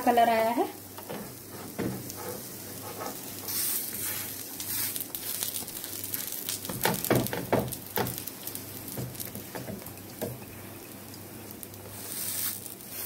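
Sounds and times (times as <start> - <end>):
bread sizzling in oil: 0.0 - 13.0.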